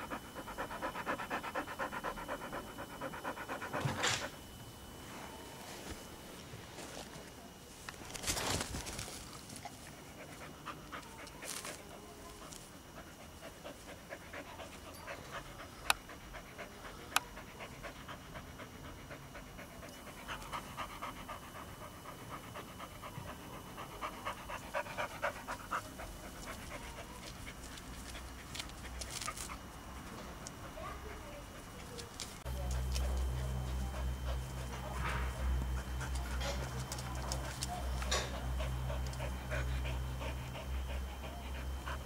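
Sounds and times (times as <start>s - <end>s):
dog panting: 0.0s - 4.6s, 9.6s - 42.0s.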